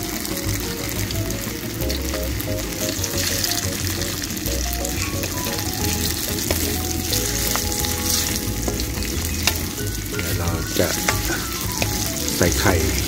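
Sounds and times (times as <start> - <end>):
food sizzling in hot oil: 0.0 - 13.0
wooden spatula stirring in wok: 0.0 - 13.0.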